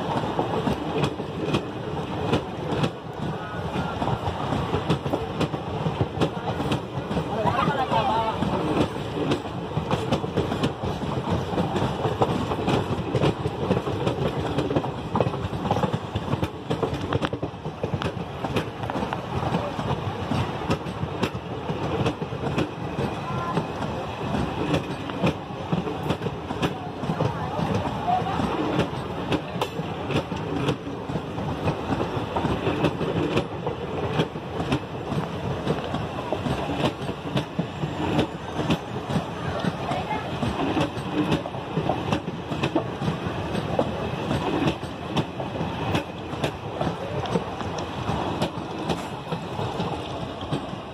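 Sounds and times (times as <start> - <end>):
train wheels rumbling: 0.0 - 50.9
wheels clacking over rail joints: 0.0 - 50.9.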